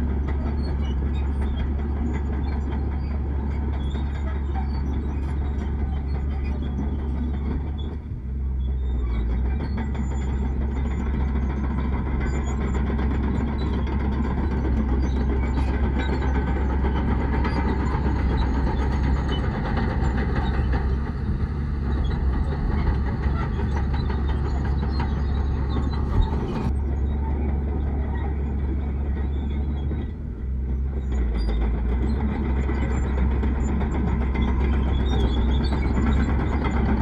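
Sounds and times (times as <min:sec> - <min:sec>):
heavy diesel machinery rumbling: 0:00.0 - 0:37.0.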